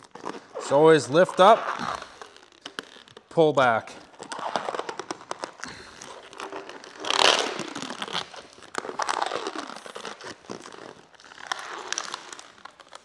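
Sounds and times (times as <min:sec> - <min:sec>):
film crackling and crinkling: 0:00.0 - 0:13.0
protective film peeling off bodywork: 0:00.0 - 0:13.0.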